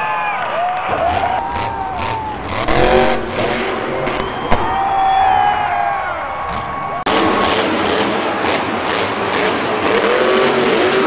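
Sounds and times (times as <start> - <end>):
monster truck engine running: 0.9 - 5.1, 6.1 - 11.0.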